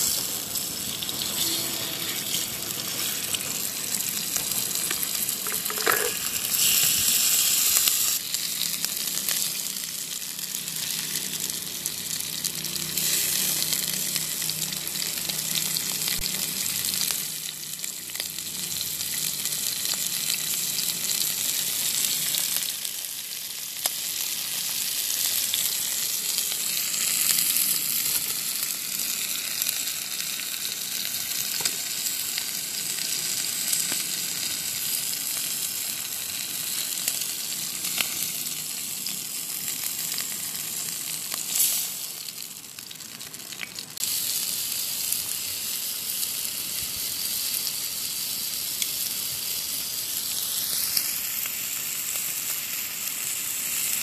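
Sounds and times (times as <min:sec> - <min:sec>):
meat sizzling on a griddle: 0:00.0 - 0:54.0.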